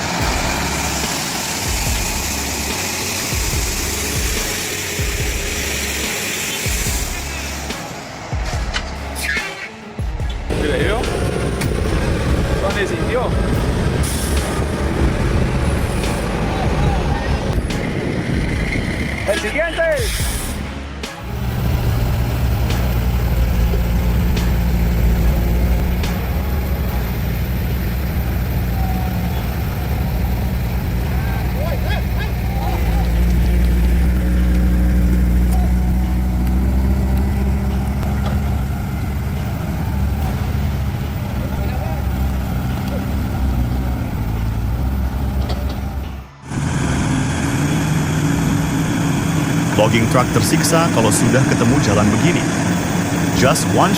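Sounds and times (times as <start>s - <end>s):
heavy truck engine idling: 0.0s - 53.9s.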